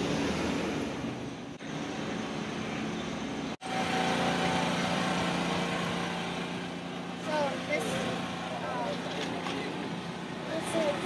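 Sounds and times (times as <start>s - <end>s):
drying fans and machinery thrum: 1.6s - 11.0s.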